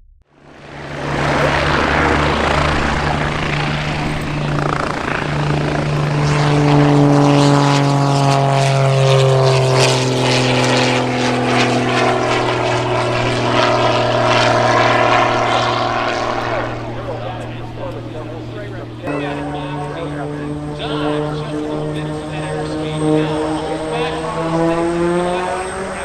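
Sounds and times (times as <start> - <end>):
propeller airplane flying past: 0.3 - 26.0.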